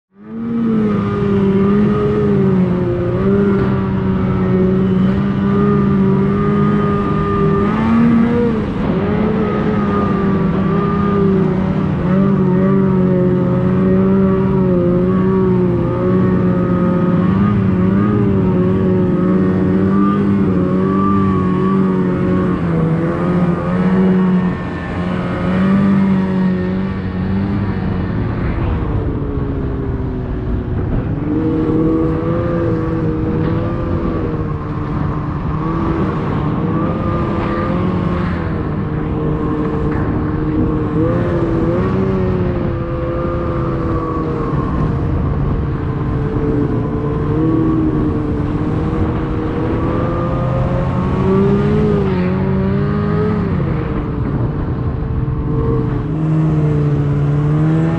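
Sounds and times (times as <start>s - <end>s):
snowmobile engine running: 0.1s - 57.9s.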